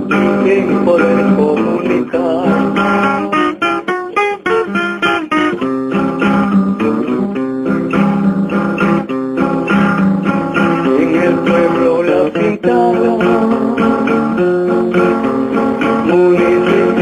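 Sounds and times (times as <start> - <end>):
acoustic guitar strummed and picked: 0.0 - 17.0.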